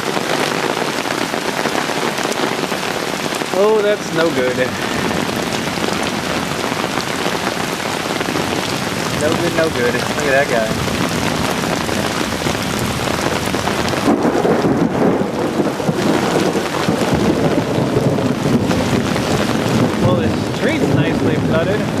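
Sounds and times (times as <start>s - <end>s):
heavy rain pouring: 0.0s - 22.0s
thunder rumble: 3.4s - 22.0s.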